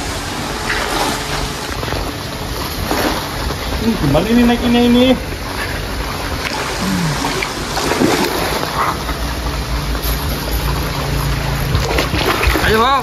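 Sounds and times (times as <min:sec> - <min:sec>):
fish thrashing in water: 0:00.0 - 0:04.2, 0:05.2 - 0:13.0.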